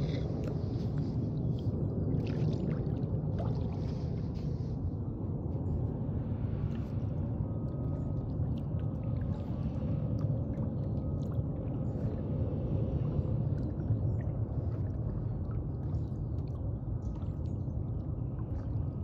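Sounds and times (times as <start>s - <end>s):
low rumble: 0.0s - 19.0s
water lapping against hull: 0.0s - 19.0s.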